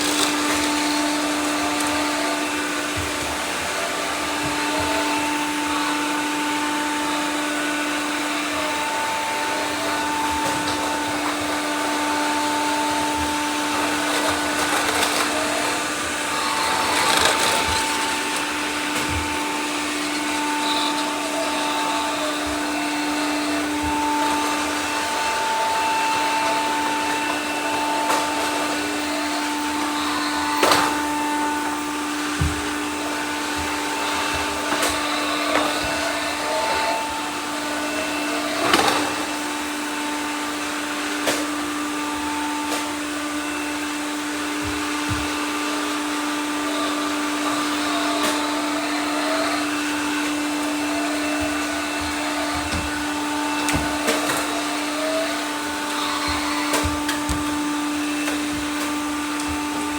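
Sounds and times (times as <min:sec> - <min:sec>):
robot vacuum motor and brush hum: 0:00.0 - 0:59.9.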